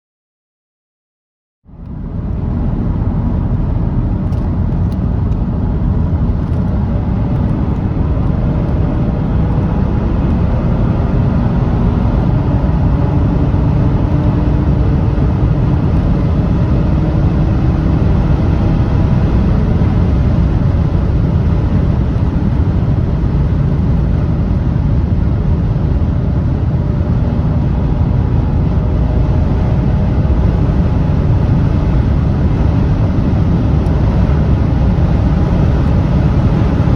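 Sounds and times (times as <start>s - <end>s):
road and wind noise: 1.6s - 36.9s
faint engine tone climbing: 1.7s - 36.9s.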